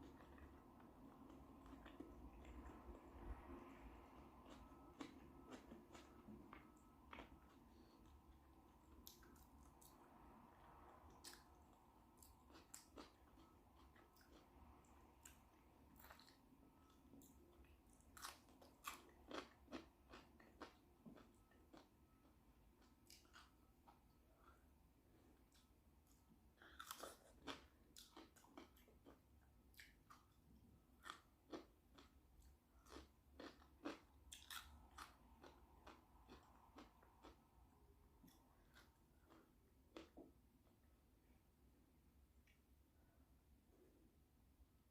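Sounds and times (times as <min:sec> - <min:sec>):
quiet chewing: 0:00.0 - 0:41.0.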